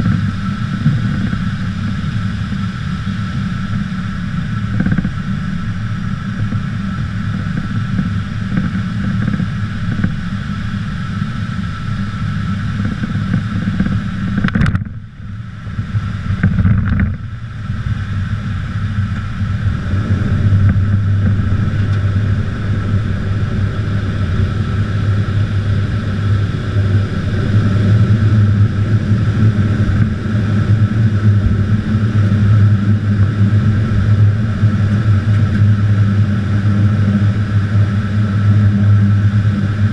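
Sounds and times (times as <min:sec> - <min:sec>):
aircraft engines droning: 0:00.0 - 0:39.9
thin steady whine: 0:00.0 - 0:39.9.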